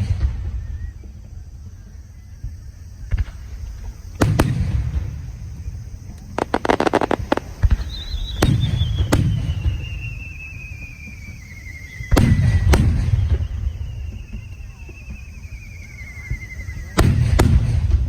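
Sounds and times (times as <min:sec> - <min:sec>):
crackling fireworks pops: 0:00.0 - 0:18.0
descending firework whistle: 0:00.0 - 0:18.0
fireworks booming: 0:00.0 - 0:18.0.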